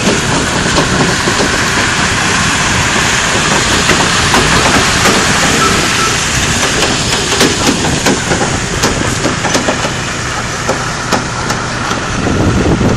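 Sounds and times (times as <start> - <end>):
tyres rolling over gravel: 0.0 - 11.0
trailer clicks and knocks: 0.0 - 12.2.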